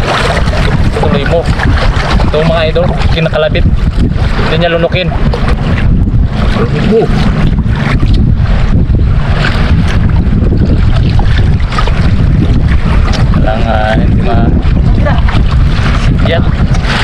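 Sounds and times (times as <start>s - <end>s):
choppy sea water: 0.0s - 17.0s
wind buffeting microphone: 0.0s - 17.0s.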